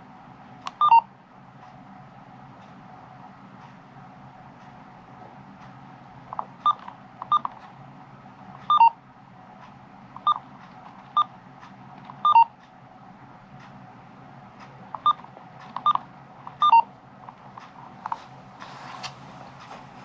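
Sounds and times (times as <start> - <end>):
faint hum and hiss: 0.0 - 20.0.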